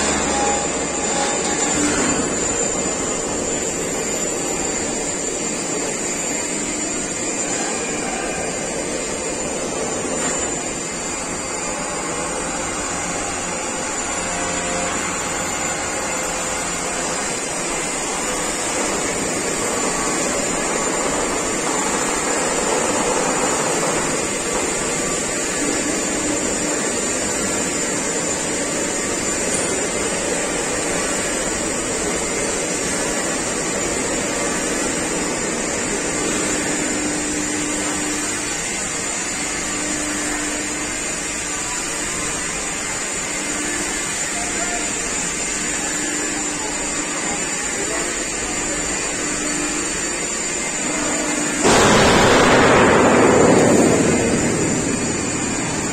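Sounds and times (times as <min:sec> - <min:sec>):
hydraulic press machinery running: 0:00.0 - 0:55.9.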